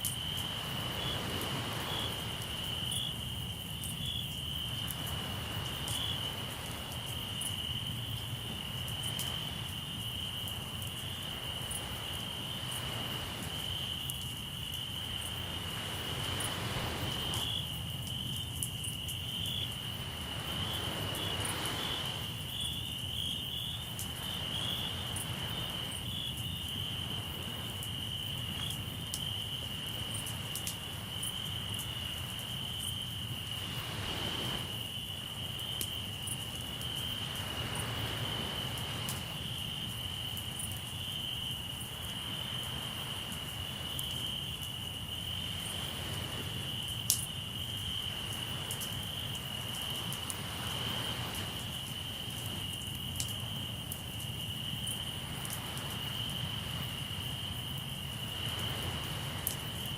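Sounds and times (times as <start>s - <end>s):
waves washing in: 0.0s - 3.8s, 4.7s - 17.9s, 19.6s - 23.0s, 23.8s - 26.1s, 29.7s - 40.7s, 41.9s - 47.1s, 48.1s - 52.7s, 55.1s - 59.9s
crickets chirping: 0.0s - 59.9s.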